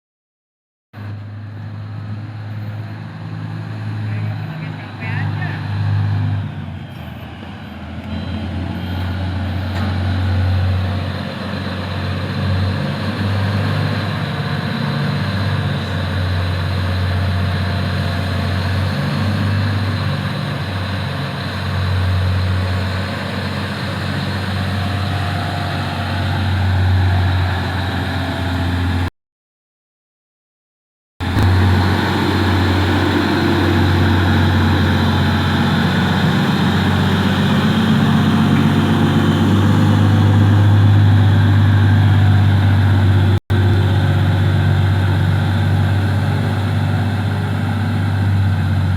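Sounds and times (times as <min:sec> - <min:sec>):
heavy diesel engine droning: 0:01.0 - 0:29.1, 0:31.2 - 0:48.9.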